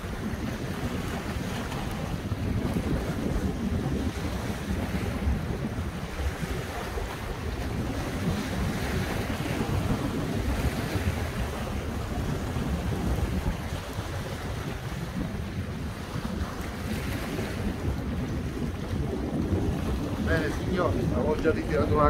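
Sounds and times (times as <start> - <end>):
sea waves: 0.0 - 22.0
wind buffeting the microphone: 0.0 - 22.0.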